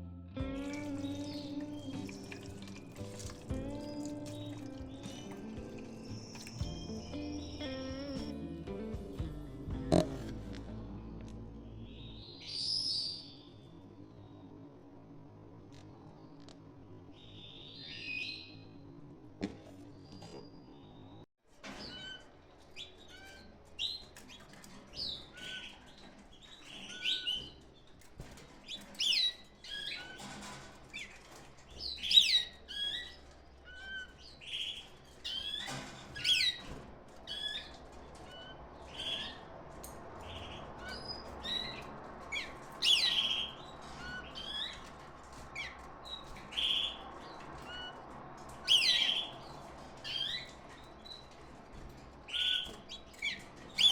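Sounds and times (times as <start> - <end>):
canaries chirping: 0.4 - 14.8, 15.7 - 53.9.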